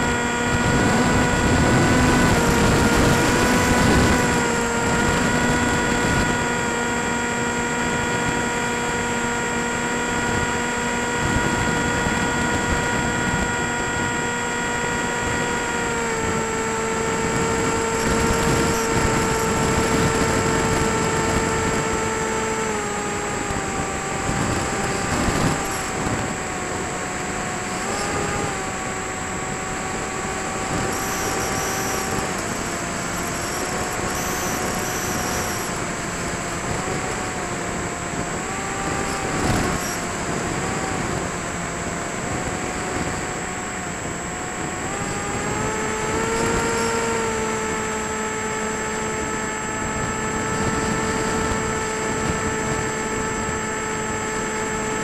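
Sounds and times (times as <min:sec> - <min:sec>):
model plane electric motor whine: 0:00.0 - 0:55.0.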